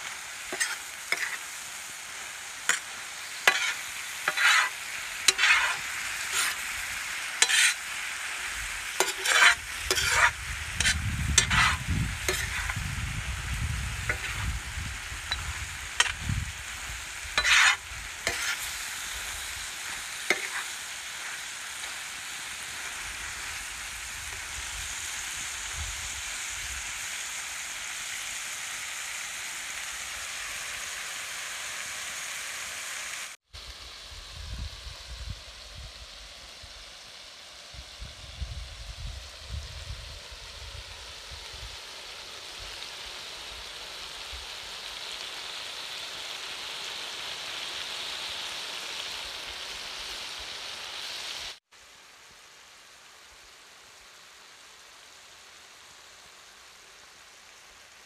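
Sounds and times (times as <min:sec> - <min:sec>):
chicken sizzling on iron pan: 0:00.0 - 0:52.2.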